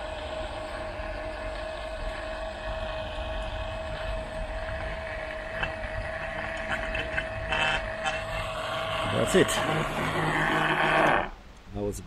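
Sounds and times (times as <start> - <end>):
electric pump whining: 0.0 - 11.4.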